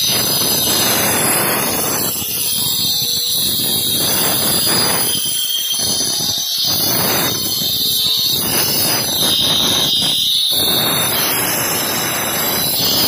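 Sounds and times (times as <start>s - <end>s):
angle grinder whine: 0.0s - 13.0s.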